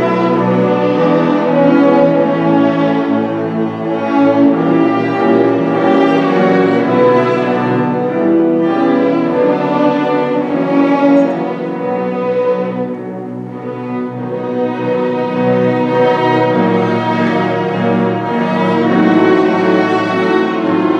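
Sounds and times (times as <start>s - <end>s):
string ensemble playing classical music: 0.0s - 20.9s.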